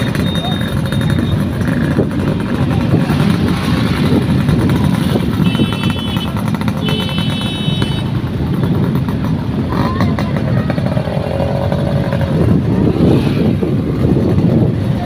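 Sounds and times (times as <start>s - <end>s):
motorbikes passing: 0.0s - 15.0s
motorcycle engine rumbling: 0.0s - 15.0s.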